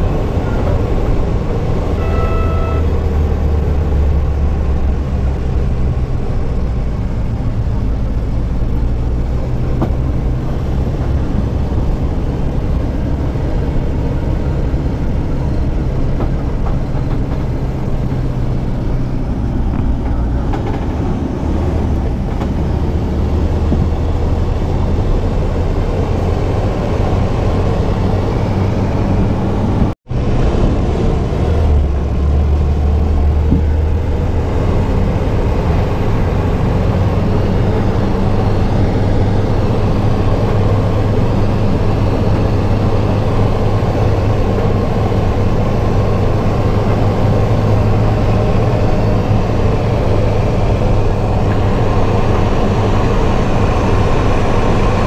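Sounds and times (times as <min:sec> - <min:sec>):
road noise: 0:00.0 - 0:55.0
vehicle engine drone: 0:00.0 - 0:55.0.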